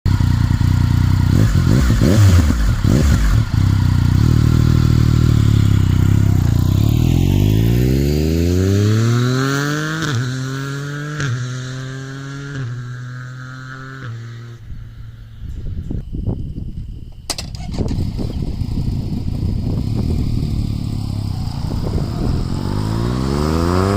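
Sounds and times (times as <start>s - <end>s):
motorcycle accelerating and upshifting: 0.1s - 15.4s, 17.6s - 23.9s.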